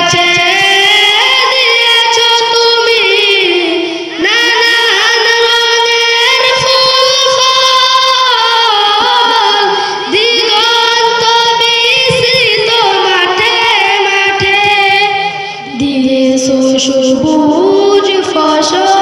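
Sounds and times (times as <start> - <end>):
boy singing into a microphone: 0.0 - 19.0.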